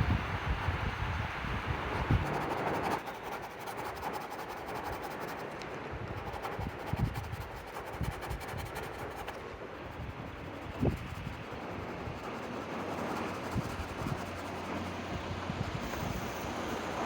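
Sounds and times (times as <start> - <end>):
wind buffeting microphone: 0.0 - 5.2, 5.8 - 17.0
fine rapid scratching: 0.1 - 17.0.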